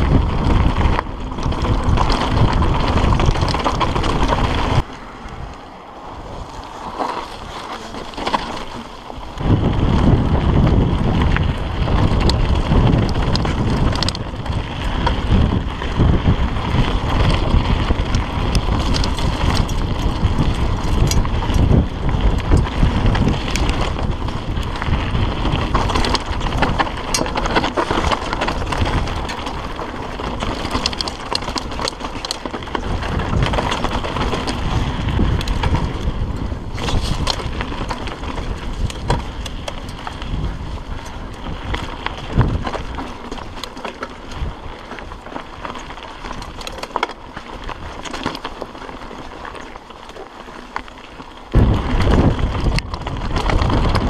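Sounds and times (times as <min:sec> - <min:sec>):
bike clicks and rattles: 0:00.0 - 0:54.0
bike tyre noise on gravel: 0:00.0 - 0:54.0
wind buffeting microphone: 0:00.0 - 0:54.0.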